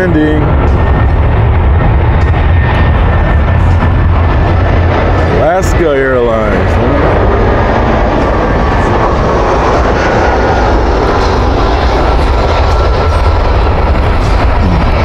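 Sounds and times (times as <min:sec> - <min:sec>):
jet airliner engine roar: 0:00.0 - 0:15.0.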